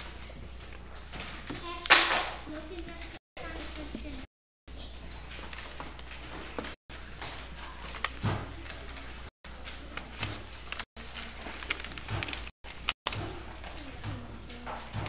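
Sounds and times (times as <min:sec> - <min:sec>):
paper rustling and crinkling: 0:02.8 - 0:15.0.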